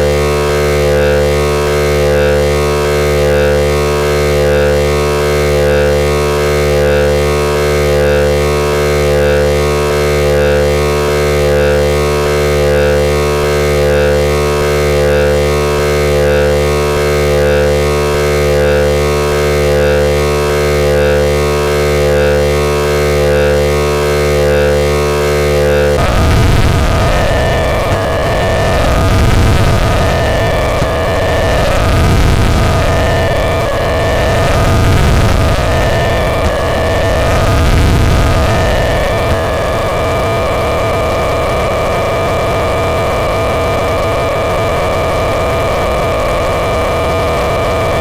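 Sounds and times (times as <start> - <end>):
harsh chaotic synth noise: 0.0 - 48.0
synth drone: 0.0 - 48.0.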